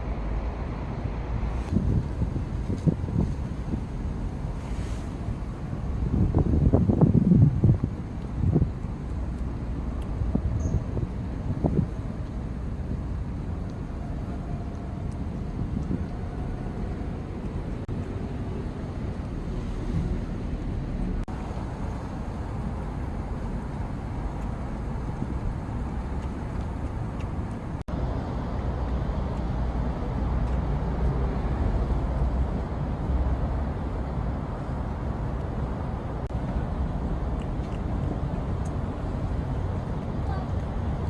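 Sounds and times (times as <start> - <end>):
low rumbling outdoor background noise: 0.0 - 41.0.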